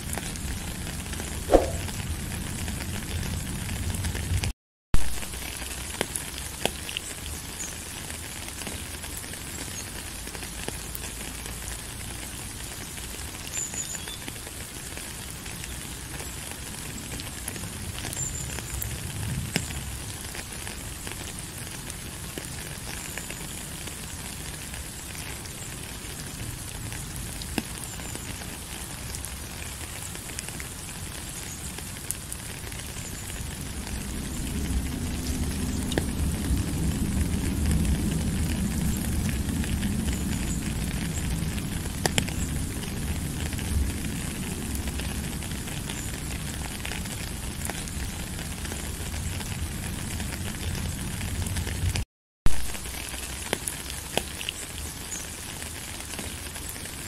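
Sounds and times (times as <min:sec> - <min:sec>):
raindrops crackling: 0:00.0 - 0:57.0
steady rain hiss: 0:00.0 - 0:57.0.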